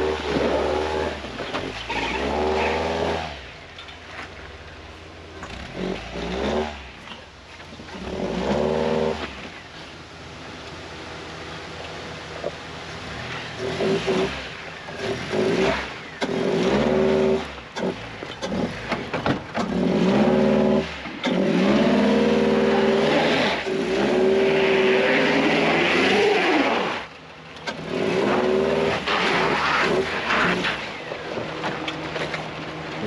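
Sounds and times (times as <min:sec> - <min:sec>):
vehicle engine revving: 0:00.0 - 0:04.3, 0:05.2 - 0:09.7, 0:11.3 - 0:33.0.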